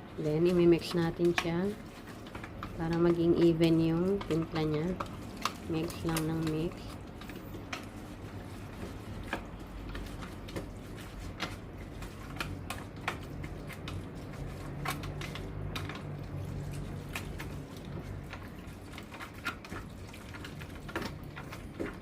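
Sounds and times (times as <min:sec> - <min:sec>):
wet squishes of mixing meat: 0:00.0 - 0:22.0.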